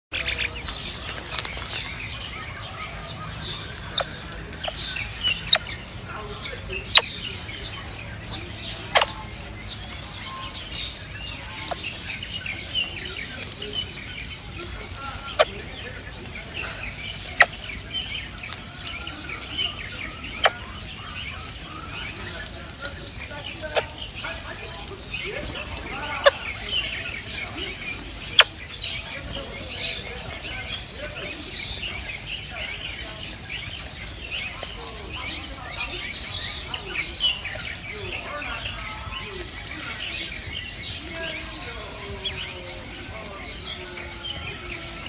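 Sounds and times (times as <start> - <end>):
songbirds chirping: 0.0 - 45.0
sharp bird calls: 0.1 - 45.0.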